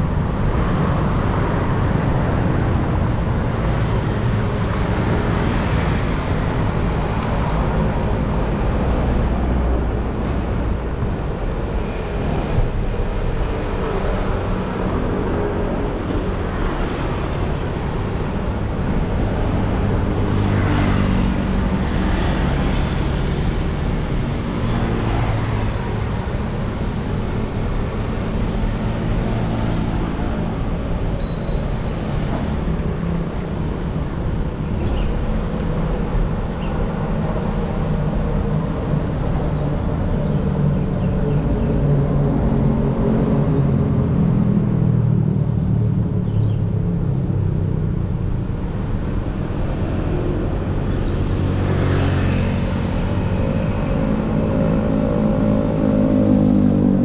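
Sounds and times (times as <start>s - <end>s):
road noise rumble: 0.0s - 57.0s.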